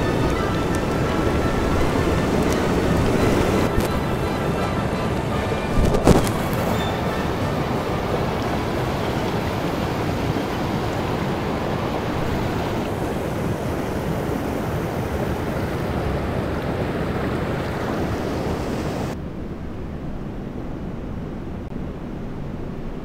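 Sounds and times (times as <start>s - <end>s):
stream water rushing: 0.0s - 19.2s.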